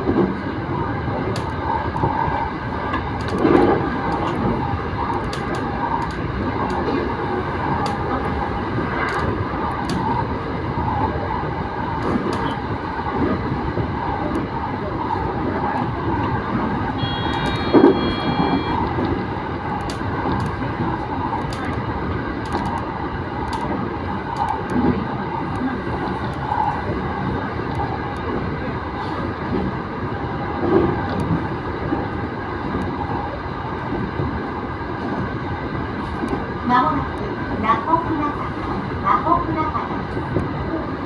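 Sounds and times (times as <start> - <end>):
high whine of steady tones: 0.0 - 41.0
train wheels rumbling on rail: 0.0 - 41.0.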